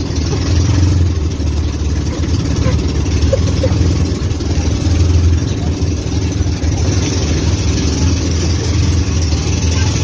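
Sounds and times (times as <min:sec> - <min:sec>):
boat engine drone: 0:00.0 - 0:10.0.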